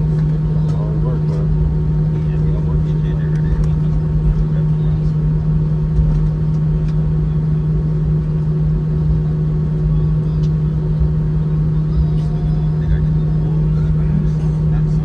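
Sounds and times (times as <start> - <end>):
jet engines idling hum: 0.0 - 15.0.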